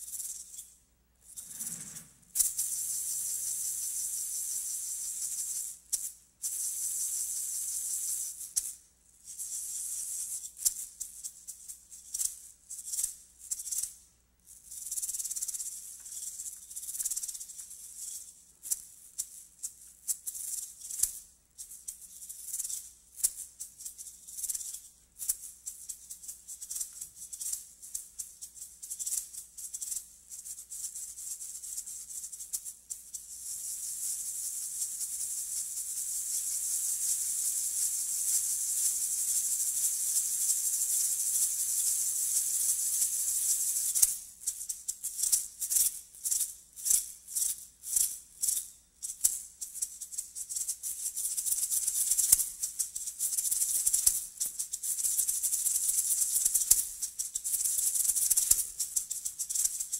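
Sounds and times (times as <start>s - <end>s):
maracas shaking: 0.0s - 59.9s.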